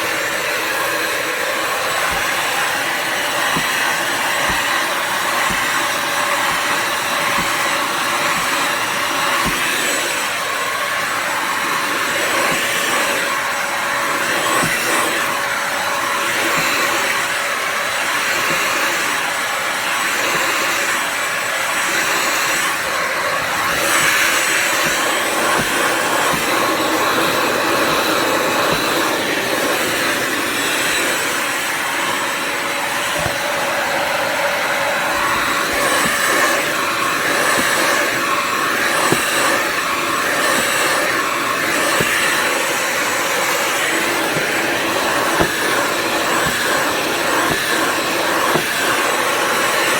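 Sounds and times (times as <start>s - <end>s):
vacuum motor whirring: 0.0s - 49.9s.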